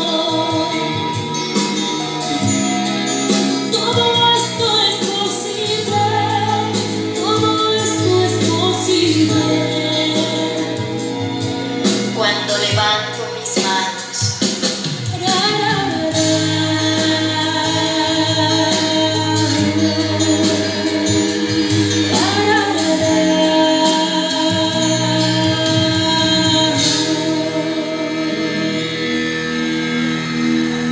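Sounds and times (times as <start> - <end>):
backing music with steady beat: 0.0 - 30.9
woman singing into a microphone: 0.0 - 30.9.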